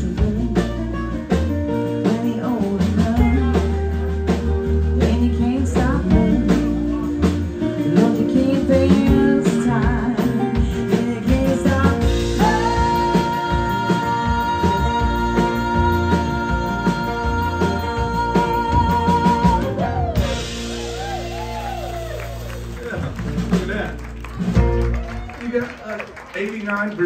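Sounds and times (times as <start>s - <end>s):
live country band playing: 0.0s - 27.0s
steady drum beat: 0.0s - 27.0s.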